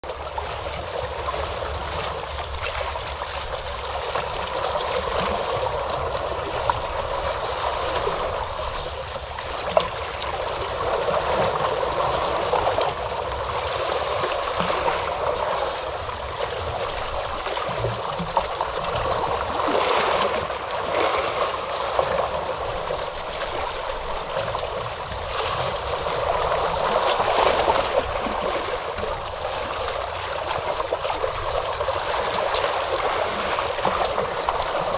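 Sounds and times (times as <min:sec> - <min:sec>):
ocean waves washing in: 0:00.1 - 0:34.9.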